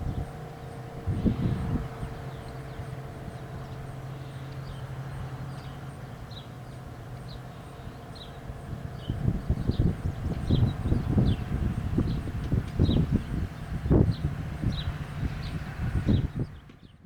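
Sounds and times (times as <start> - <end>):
low rumbling noise: 0.0 - 17.0
small birds chirping: 0.2 - 17.0.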